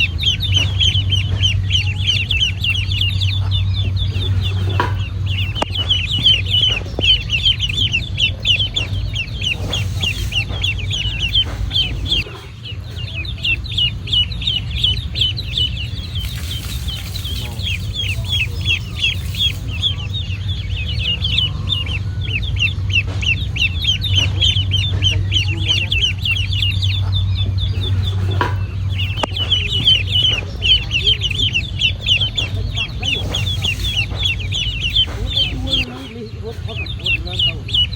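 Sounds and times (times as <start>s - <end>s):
ducklings peeping: 0.0s - 37.9s
steady low hum: 0.0s - 37.9s.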